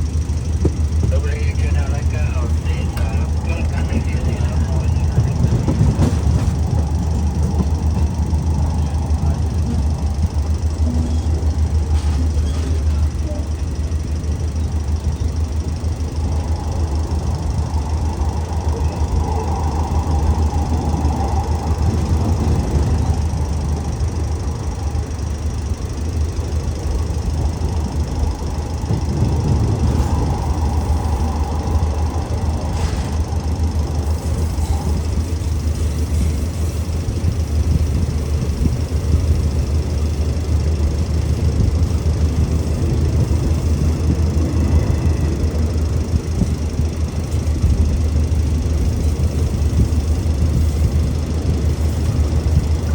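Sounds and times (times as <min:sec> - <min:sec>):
diesel train rumbling: 0:00.0 - 0:52.9.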